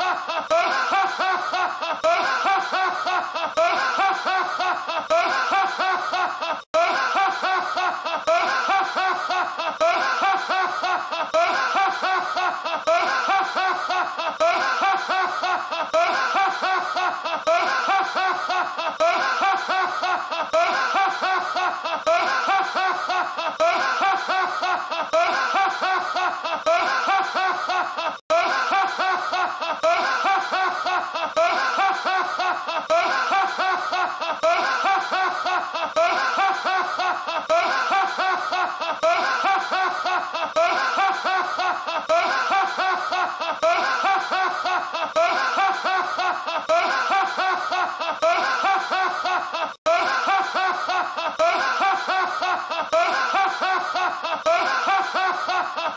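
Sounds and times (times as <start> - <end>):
man laughing heartily: 0.0 - 55.9.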